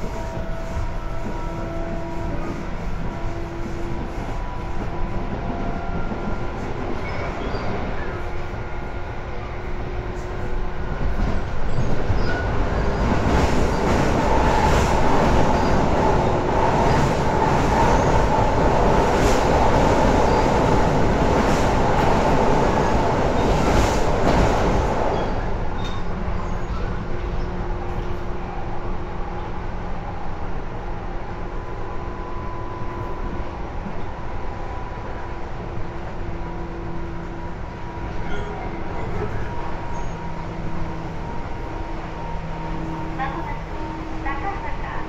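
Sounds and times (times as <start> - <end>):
train wheel and rail noise: 0.0 - 45.0.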